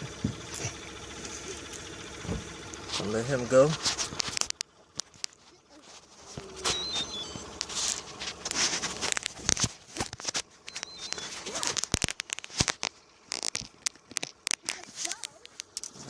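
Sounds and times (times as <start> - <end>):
handling scratches and rustles: 2.8 - 16.0.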